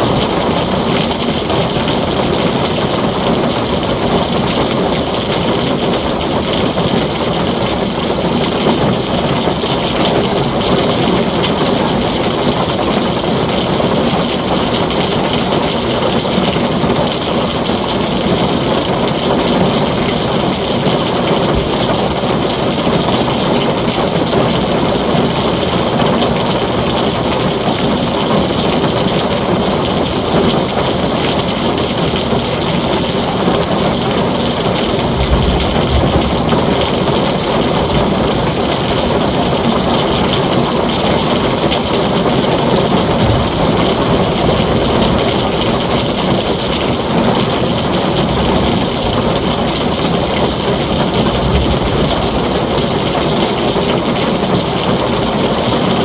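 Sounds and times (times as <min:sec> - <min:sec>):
heavy rain on a tin roof: 0:00.0 - 0:56.0
low thunder rumbles: 0:00.0 - 0:56.0.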